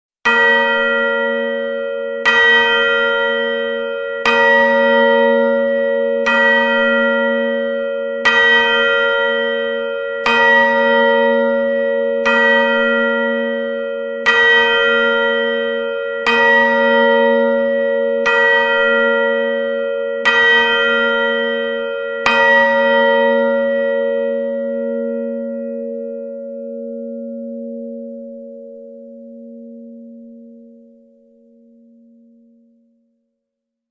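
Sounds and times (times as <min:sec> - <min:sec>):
clock bell striking: 0:00.3 - 0:27.9.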